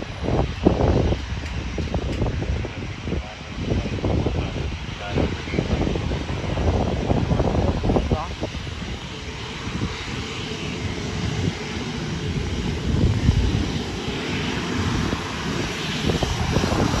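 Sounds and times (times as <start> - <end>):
airliner engines rumbling: 0.0 - 17.0
wind buffeting microphone: 0.0 - 17.0.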